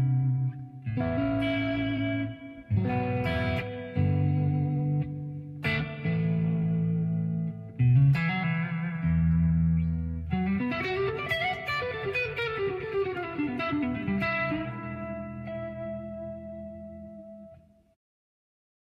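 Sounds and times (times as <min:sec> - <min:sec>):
electric guitar: 0:00.0 - 0:17.8.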